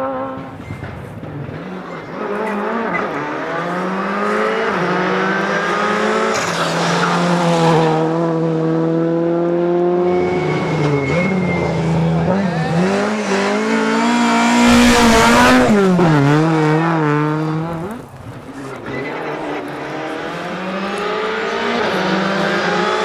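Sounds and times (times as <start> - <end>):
car engine revving: 1.3 - 23.0.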